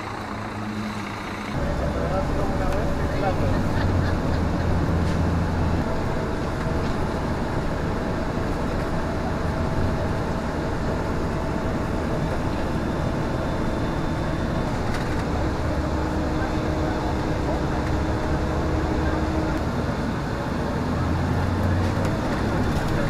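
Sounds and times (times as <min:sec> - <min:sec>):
bus engine running: 0:00.0 - 0:23.0
road and tyre noise: 0:00.0 - 0:23.0.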